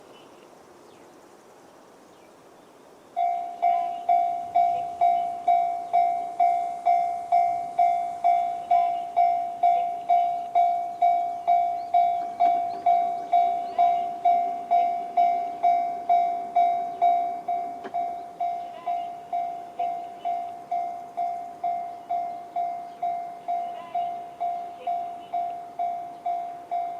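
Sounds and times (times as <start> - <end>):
faint outdoor background: 0.0 - 26.9
level crossing alarm dings: 3.2 - 26.9.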